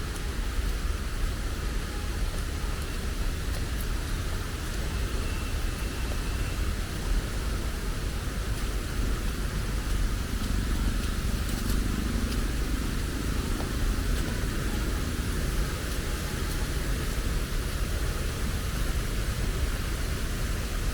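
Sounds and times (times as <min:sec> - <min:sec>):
falling rain hiss: 0:00.0 - 0:20.9
low rumble of road traffic: 0:00.0 - 0:20.9.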